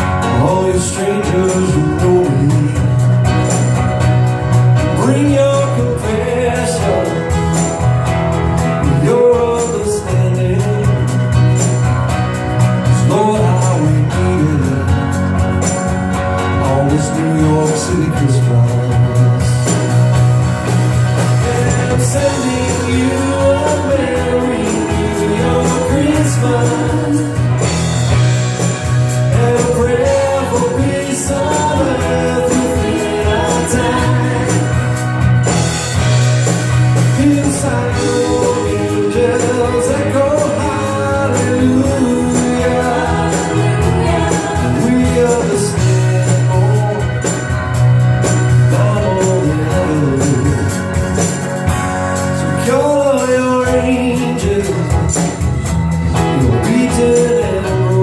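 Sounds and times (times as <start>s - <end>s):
live band playing upbeat song: 0.0s - 58.0s
regular drum beat: 0.0s - 58.0s
steady bass line: 0.0s - 58.0s.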